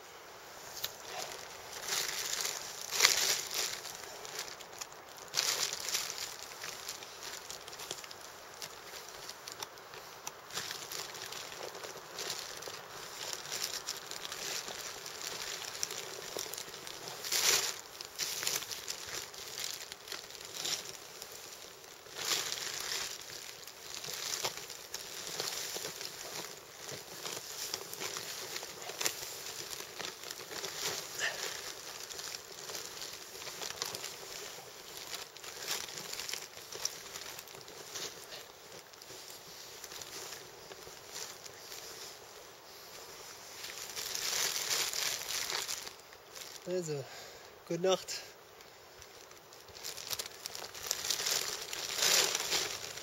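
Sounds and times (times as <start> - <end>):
plastic tarp and clothing rustling: 0.0 - 53.0.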